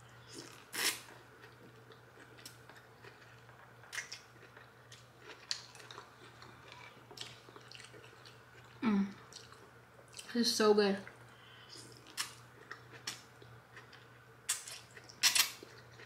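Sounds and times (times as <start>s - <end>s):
wet chewing and smacking: 0.2s - 10.3s, 11.8s - 16.0s.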